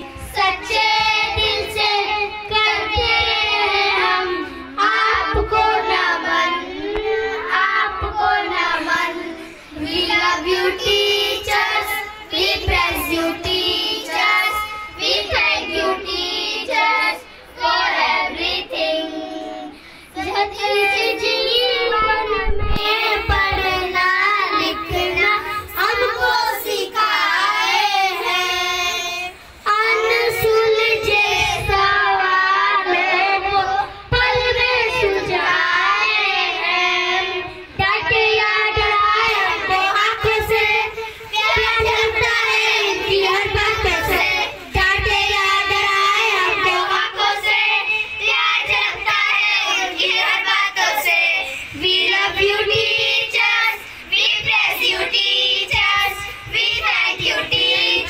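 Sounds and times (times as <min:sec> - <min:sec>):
boy singing into a microphone: 0:00.0 - 0:58.0
children singing together: 0:00.0 - 0:58.0.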